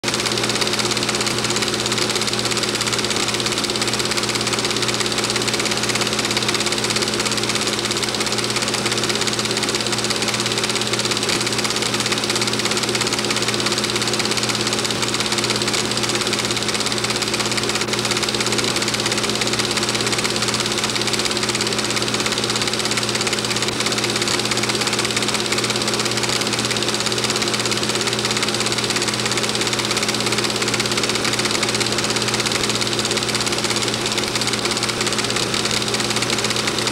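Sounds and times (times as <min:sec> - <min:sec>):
film projector hum: 0:00.0 - 0:36.9.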